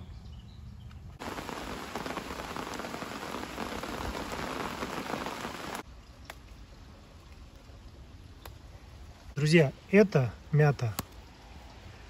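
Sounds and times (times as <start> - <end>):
rain falling on trees: 1.2 - 12.0.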